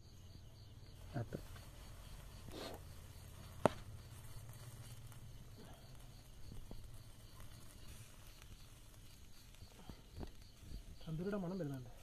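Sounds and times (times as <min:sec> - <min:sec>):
crickets chirping: 0:00.0 - 0:12.0
soft scrape on grill mesh: 0:01.0 - 0:11.1.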